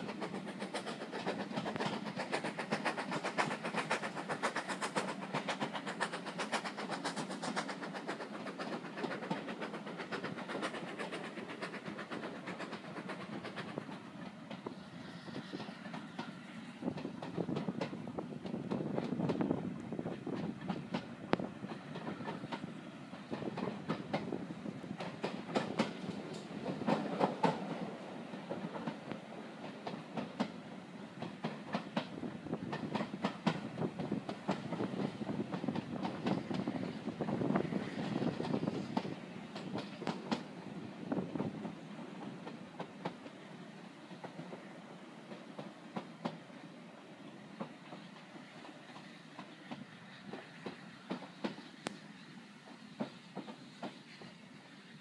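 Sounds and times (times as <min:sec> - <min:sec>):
wheels clicking over rail joints: 0:00.0 - 0:43.4, 0:47.6 - 0:54.4
train carriage rumbling: 0:00.0 - 0:55.0.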